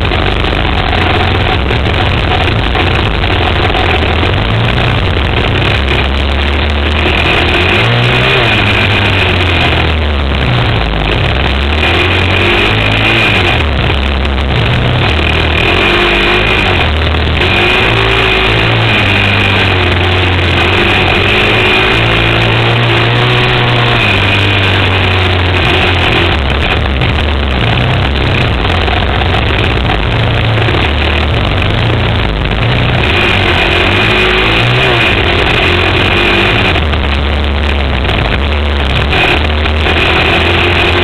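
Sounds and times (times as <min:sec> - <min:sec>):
quad bike engine revving: 0:00.0 - 0:41.0.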